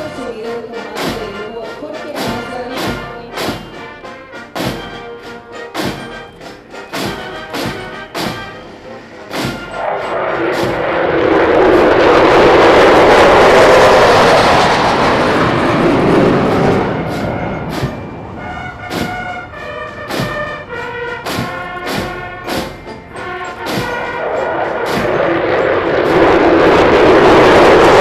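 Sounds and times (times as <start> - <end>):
aircraft roar: 0.0 - 28.0
drum beats: 0.0 - 28.0
military brass band march: 0.0 - 28.0.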